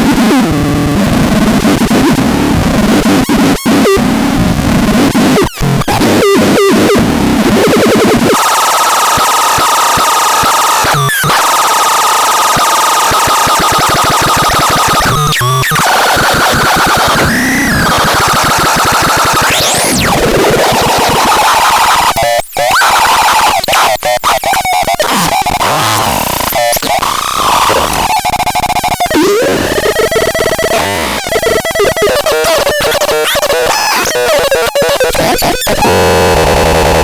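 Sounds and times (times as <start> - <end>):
harsh synthesized noise: 0.0 - 37.0.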